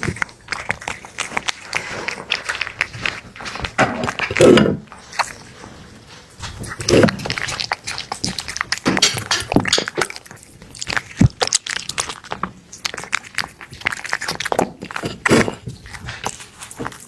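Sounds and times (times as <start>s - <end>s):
cat chewing and crunching food: 0.0s - 17.0s.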